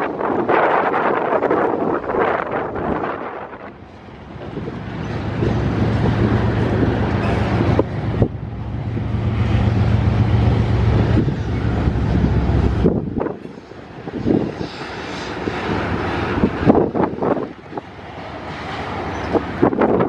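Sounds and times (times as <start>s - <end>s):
diesel locomotive drone: 0.0s - 20.0s
train wheels rumbling on rail: 0.0s - 20.0s
wind buffeting microphone: 0.0s - 20.0s.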